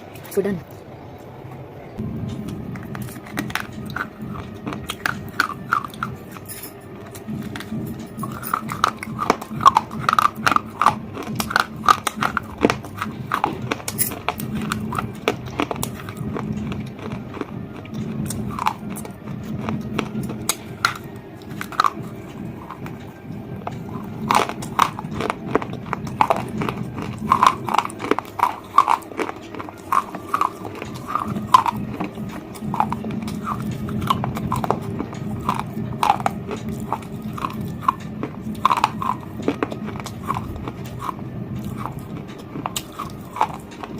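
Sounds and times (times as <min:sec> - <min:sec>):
crunchy food chewing: 0:02.4 - 0:43.9.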